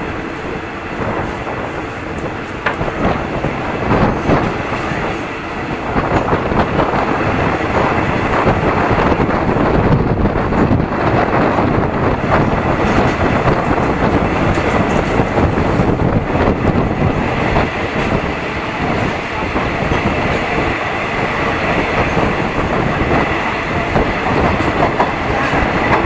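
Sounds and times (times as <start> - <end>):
train wheels running on rails: 0.0 - 26.0.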